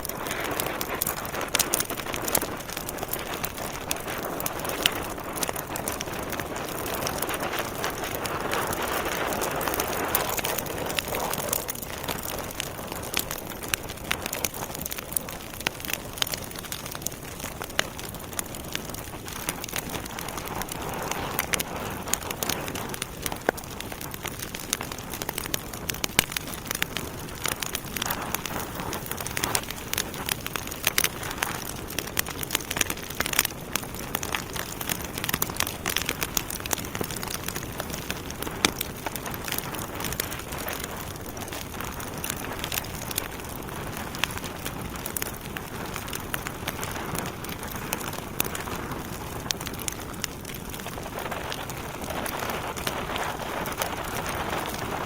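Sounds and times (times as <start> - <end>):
burning logs crackling and popping: 0.0 - 55.0.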